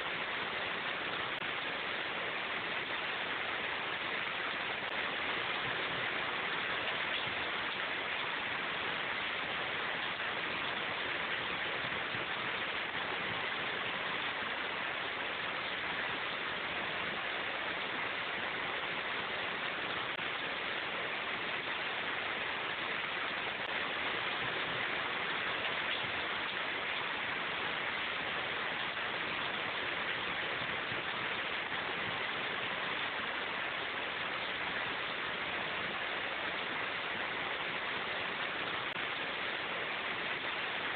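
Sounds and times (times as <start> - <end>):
rain falling in forest: 0.0 - 40.9.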